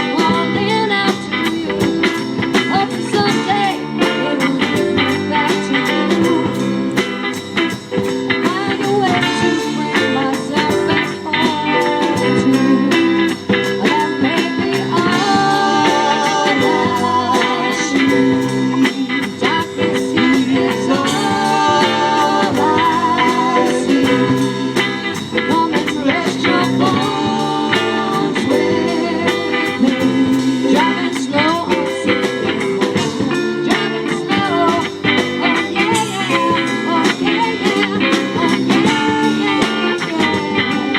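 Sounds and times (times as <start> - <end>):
bass guitar: 0.0 - 40.9
drum kit beat: 0.0 - 40.9
electric guitar: 0.0 - 40.9
person singing lead vocal: 0.0 - 40.9.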